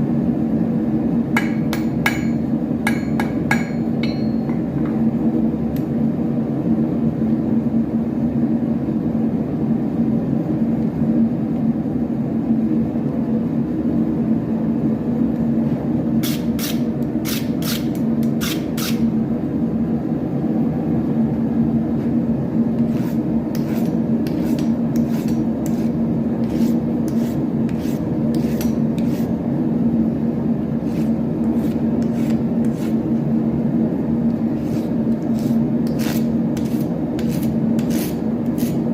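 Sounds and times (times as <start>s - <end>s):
forge blower humming: 0.0s - 38.9s.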